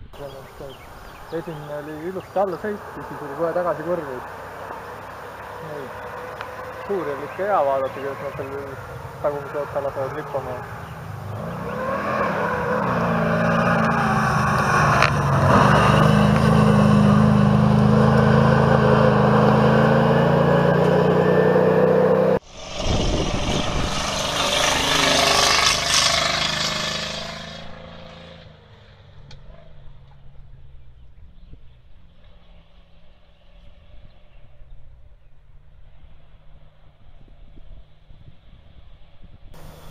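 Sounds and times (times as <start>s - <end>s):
rally car engine revving: 0.0s - 34.4s, 39.6s - 39.9s.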